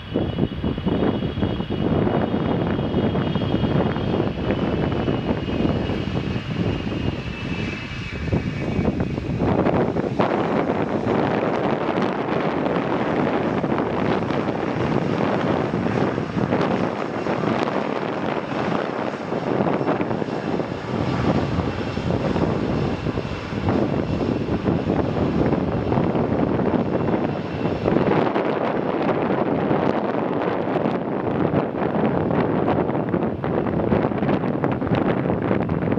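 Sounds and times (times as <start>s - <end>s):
jet engine rush: 0.0s - 35.9s.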